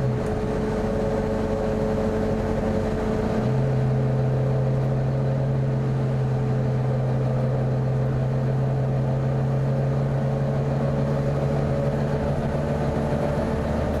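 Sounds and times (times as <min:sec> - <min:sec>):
engine cooling fan droning hum: 0:00.0 - 0:14.0.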